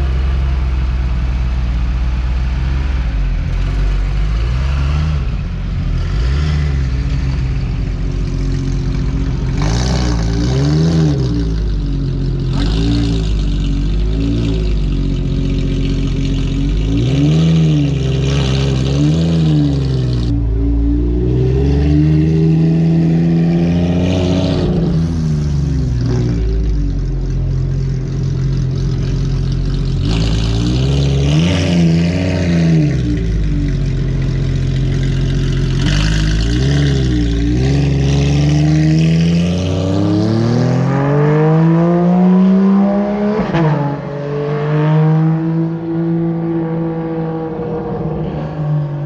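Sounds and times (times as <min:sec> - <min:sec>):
sports car engine revving: 0:00.0 - 0:49.0.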